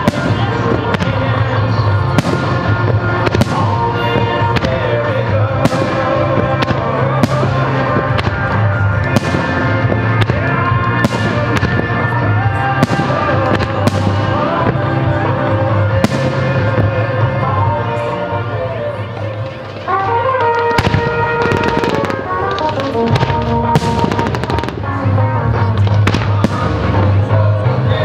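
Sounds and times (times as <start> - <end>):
music playing: 0.0 - 28.0.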